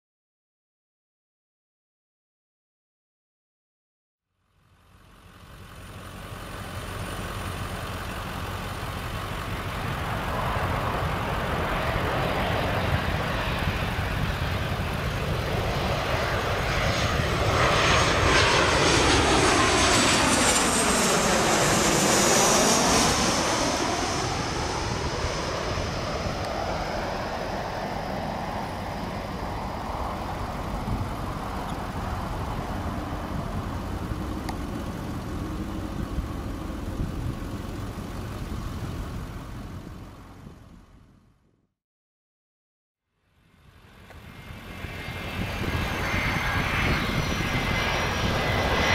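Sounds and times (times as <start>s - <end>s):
jet airliner flying overhead: 4.6s - 41.2s, 43.2s - 48.9s
high jet engine whine: 4.7s - 41.4s, 43.2s - 48.9s.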